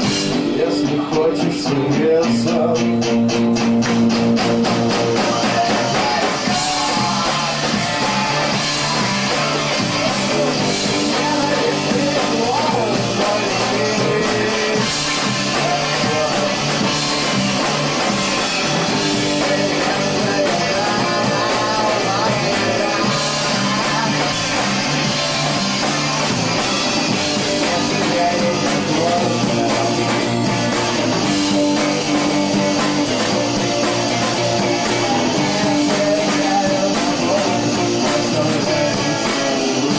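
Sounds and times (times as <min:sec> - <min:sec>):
rock band with guitars: 0:00.0 - 0:39.9.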